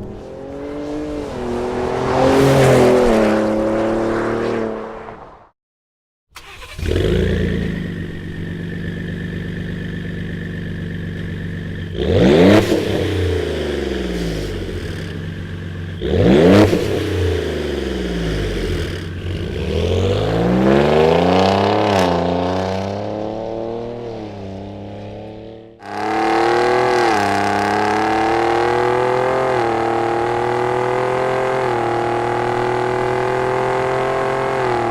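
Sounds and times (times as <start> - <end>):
truck engine idling and revving: 0.0 - 4.6, 6.4 - 34.9.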